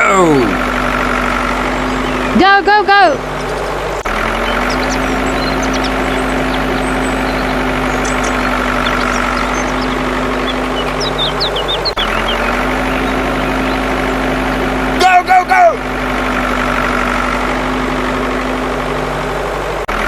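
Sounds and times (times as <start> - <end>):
tractor engine humming: 0.0 - 20.0.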